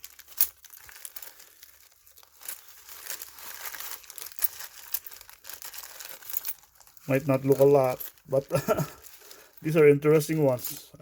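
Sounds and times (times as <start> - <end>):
parcel wrapping crinkling and tearing: 0.0 - 11.0.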